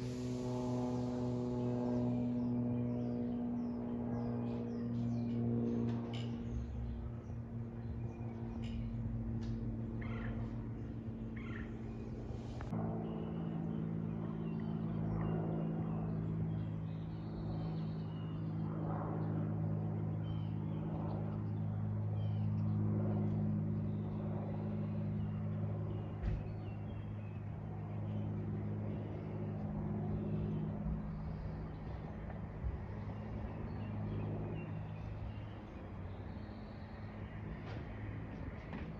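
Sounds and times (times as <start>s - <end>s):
light aircraft droning overhead: 0.0s - 38.9s.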